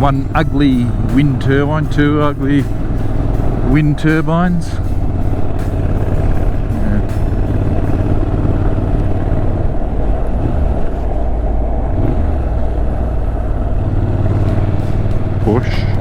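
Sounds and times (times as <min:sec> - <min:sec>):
motorcycle engine running: 0:00.0 - 0:16.0
wind and road rush: 0:00.0 - 0:16.0.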